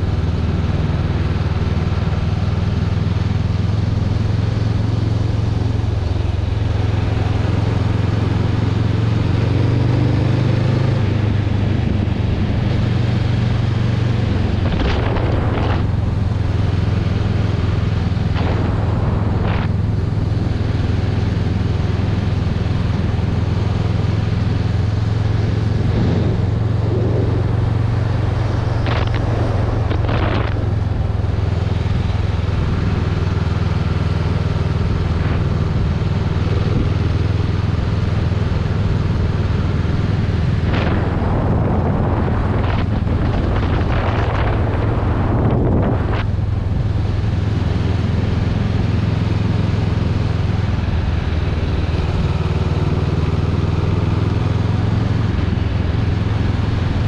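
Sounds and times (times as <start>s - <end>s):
motorcycle engine cruising: 0.0s - 57.0s
wind on microphone: 10.6s - 57.0s.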